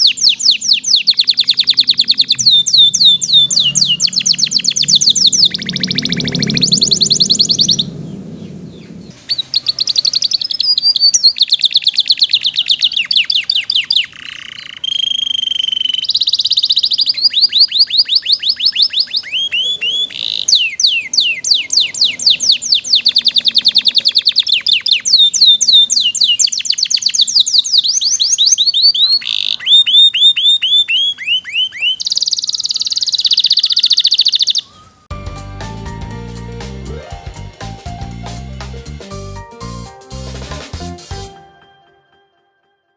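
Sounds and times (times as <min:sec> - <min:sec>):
canary singing trills: 0:00.0 - 0:35.1.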